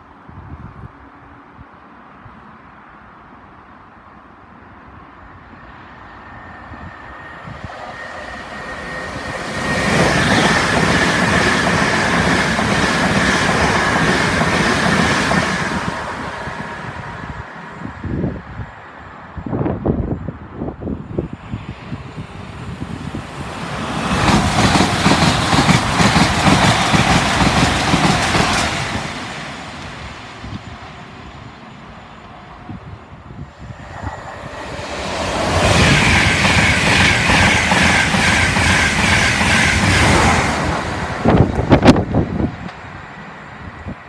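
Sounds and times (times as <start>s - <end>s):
high-speed train passing: 0.0s - 44.0s.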